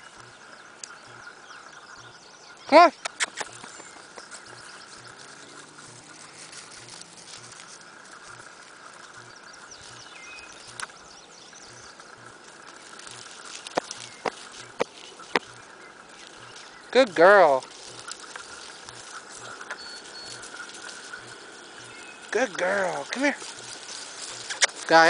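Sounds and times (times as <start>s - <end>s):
paws crunching dry stalks: 0.0s - 25.0s.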